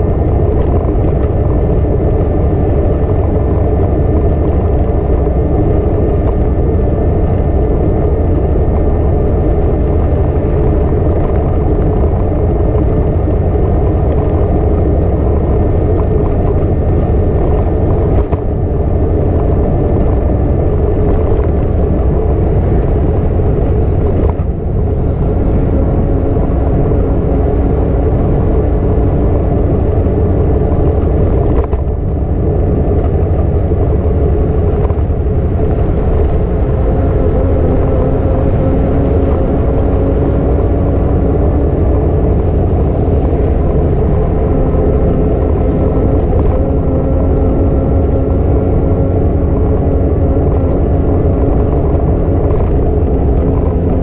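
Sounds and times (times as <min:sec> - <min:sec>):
bicycle rolling rumble and wind: 0:00.0 - 0:54.0
faint steady hum: 0:00.0 - 0:54.0.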